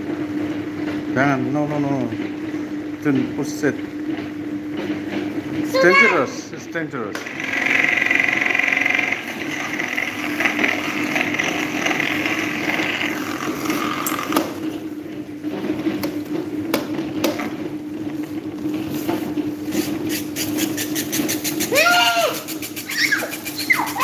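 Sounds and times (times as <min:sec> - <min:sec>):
electric fan motor hum: 0:00.0 - 0:24.0.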